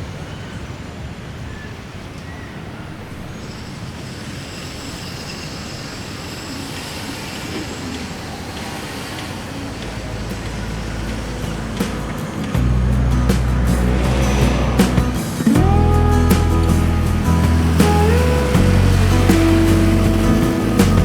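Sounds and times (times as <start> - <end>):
road traffic rumble: 1.9 - 21.0.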